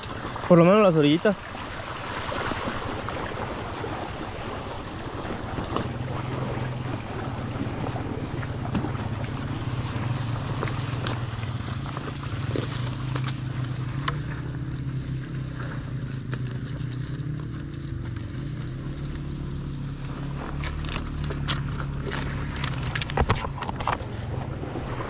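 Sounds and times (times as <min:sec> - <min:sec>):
bike tyres rumbling over stones: 0:00.0 - 0:25.0.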